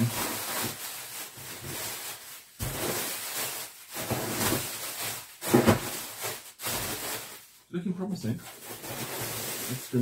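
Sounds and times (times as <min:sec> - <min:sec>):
bubble wrap and plastic rustling: 0:00.0 - 0:10.0.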